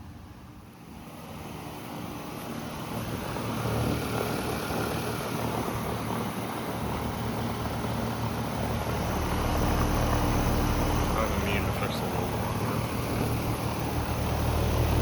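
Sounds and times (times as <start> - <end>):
air conditioner compressor hum: 0.0 - 15.0.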